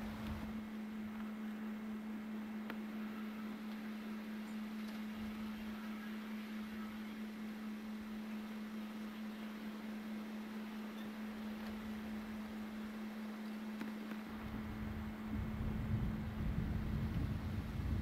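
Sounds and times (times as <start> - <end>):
steady low-pitched hum: 0.0 - 18.0.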